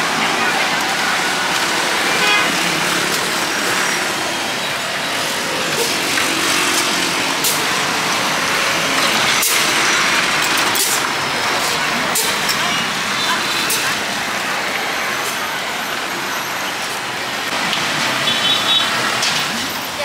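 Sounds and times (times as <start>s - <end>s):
motorbikes and cars passing: 0.0s - 20.0s.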